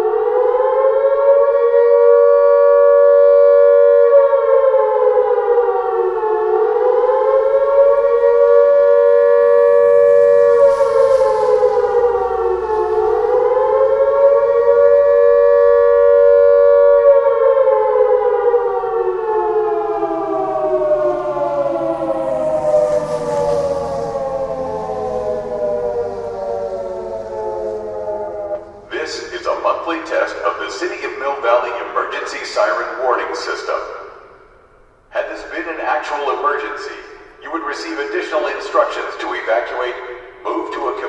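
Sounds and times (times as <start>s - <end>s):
wailing siren: 0.0s - 41.0s.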